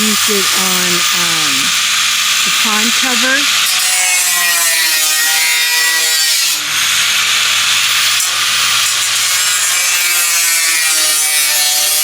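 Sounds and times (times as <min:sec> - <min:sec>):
power tool cutting sheet metal: 0:00.0 - 0:12.0.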